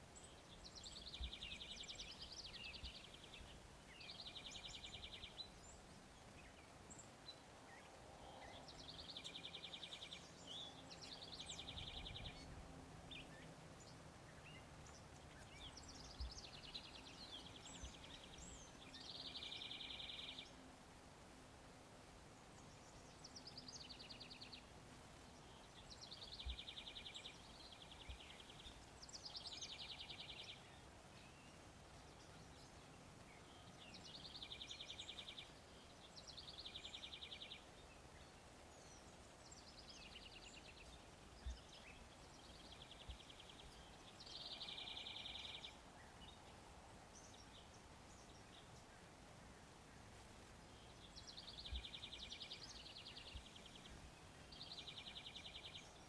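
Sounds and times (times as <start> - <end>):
outdoor background hush: 0.0 - 56.0.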